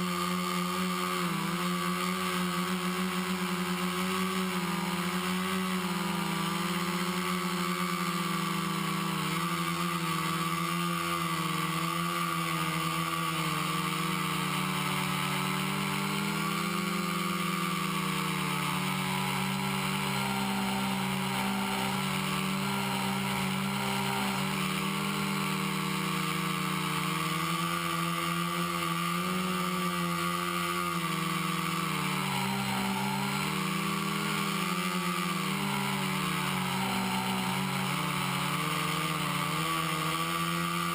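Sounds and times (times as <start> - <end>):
quadcopter motors buzzing: 0.0 - 40.9.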